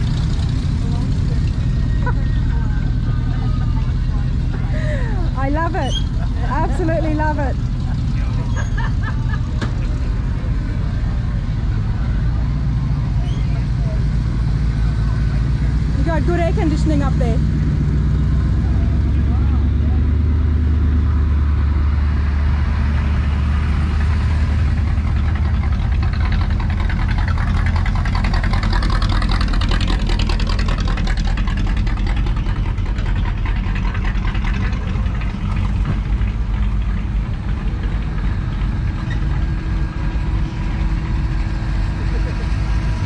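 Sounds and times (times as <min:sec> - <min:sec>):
car engines running at low speed: 0:00.0 - 0:43.0
car rolling past: 0:00.0 - 0:43.0.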